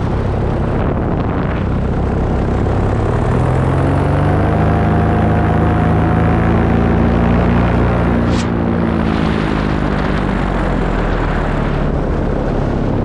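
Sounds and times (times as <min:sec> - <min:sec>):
paramotor engine and propeller: 0:00.0 - 0:13.0
wind rushing across microphone: 0:00.0 - 0:13.0.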